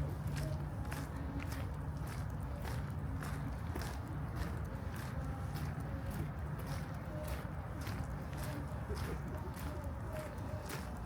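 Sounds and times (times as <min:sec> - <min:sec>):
city background rumble: 0:00.0 - 0:11.0
walking footsteps: 0:00.0 - 0:11.0.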